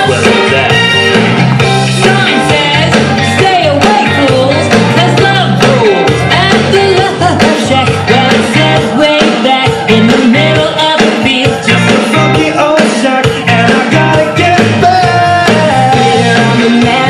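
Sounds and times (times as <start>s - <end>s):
song with singing over beat: 0.0s - 17.0s.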